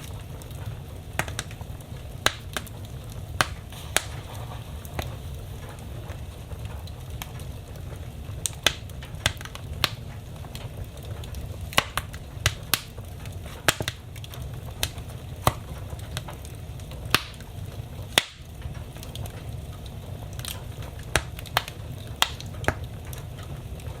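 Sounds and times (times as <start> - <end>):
steady low rumble: 0.0 - 24.0
wood fire crackling and popping: 0.0 - 24.0.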